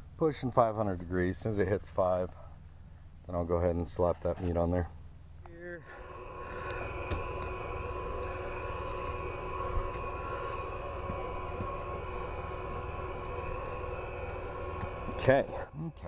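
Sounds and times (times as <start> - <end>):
droning hum: 0.0 - 16.0.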